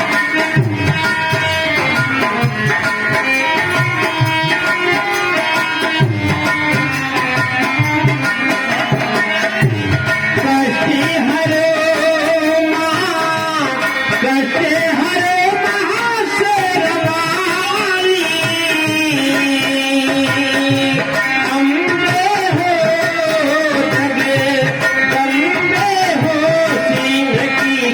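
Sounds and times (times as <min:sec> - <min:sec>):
dholak drum beating: 0:00.0 - 0:27.9.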